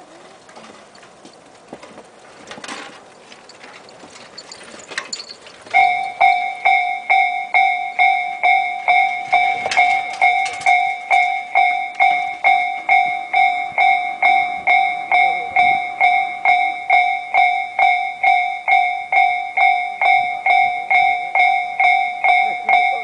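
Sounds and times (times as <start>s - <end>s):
level crossing bell clanging: 3.5s - 23.0s.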